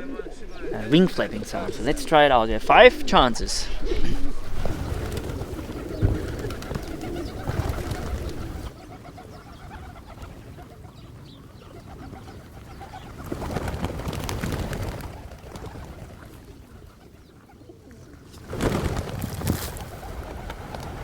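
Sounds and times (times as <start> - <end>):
pigeons cooing: 0.0 - 21.0
pigeon wings flapping: 3.8 - 21.0.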